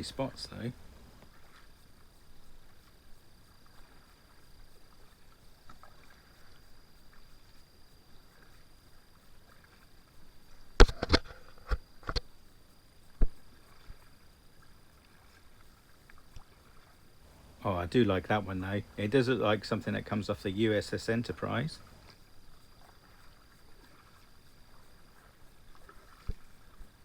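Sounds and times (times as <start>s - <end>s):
paddle strokes in water: 0.0s - 27.0s.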